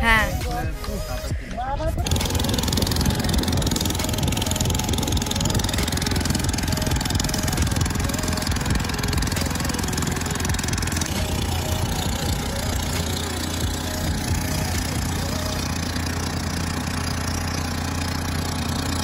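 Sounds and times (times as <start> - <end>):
boat engine pulsing drone: 0.0 - 19.0.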